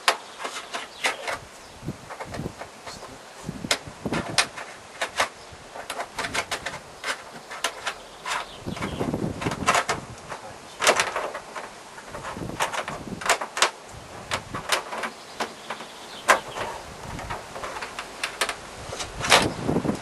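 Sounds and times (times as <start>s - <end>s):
metallic clicks and scrapes: 0.0s - 1.5s, 3.7s - 20.0s.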